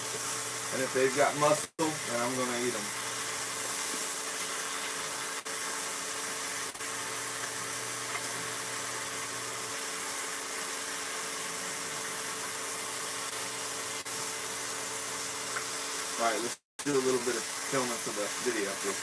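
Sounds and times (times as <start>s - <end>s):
meat sizzling in frying pan: 0.0s - 19.0s.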